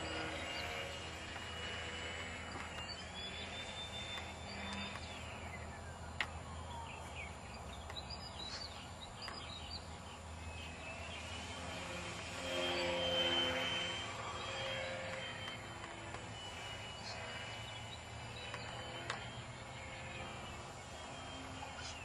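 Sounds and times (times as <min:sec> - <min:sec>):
model airplane motor whining: 0:00.0 - 0:22.0.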